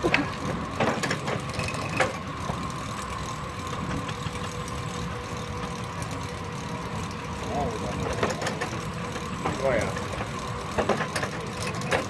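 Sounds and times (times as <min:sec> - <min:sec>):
steam sawmill running: 0:00.0 - 0:12.0.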